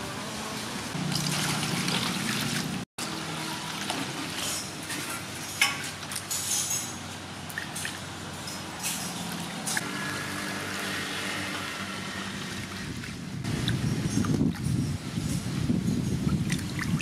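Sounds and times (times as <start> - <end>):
water pouring and splashing: 0.9 - 17.0.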